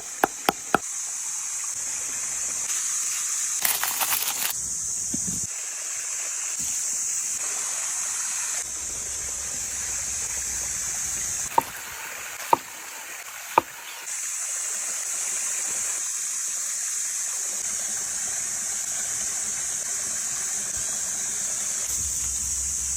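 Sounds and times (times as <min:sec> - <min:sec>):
food sizzling over a campfire: 0:00.0 - 0:22.9.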